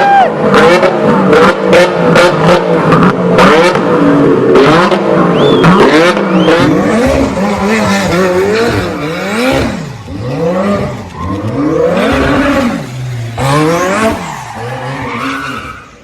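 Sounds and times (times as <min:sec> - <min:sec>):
car engine revving: 0:00.3 - 0:16.0.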